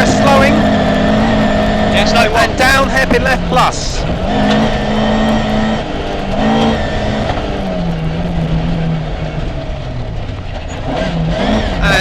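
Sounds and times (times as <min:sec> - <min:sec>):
rally car engine under load: 0:00.0 - 0:12.0.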